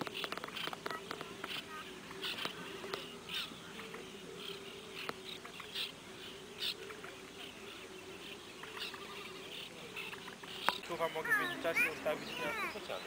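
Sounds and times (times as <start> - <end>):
marsh birds calling: 0.0 - 13.0.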